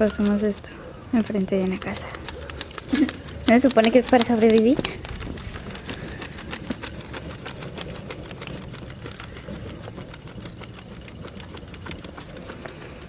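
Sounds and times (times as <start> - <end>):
campfire crackling: 0.0 - 13.0
steady low rumble: 1.0 - 13.0.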